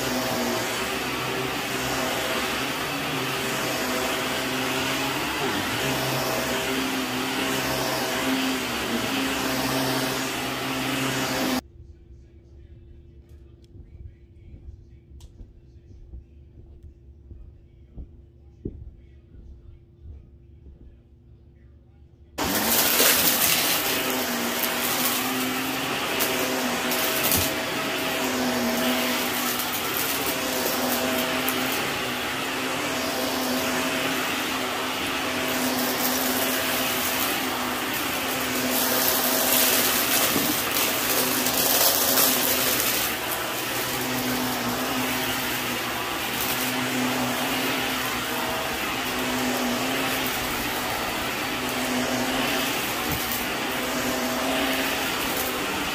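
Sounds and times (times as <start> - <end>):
vacuum cleaner running: 0.0 - 11.6, 22.4 - 55.9.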